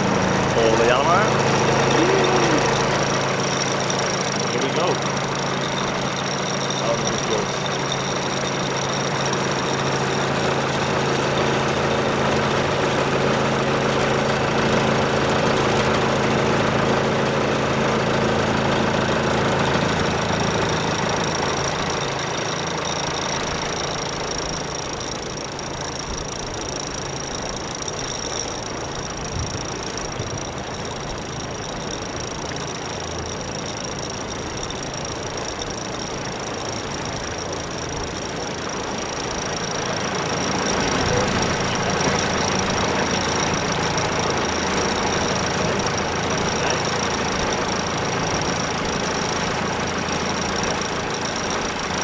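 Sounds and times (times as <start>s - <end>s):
boat engine running: 0.0s - 52.0s.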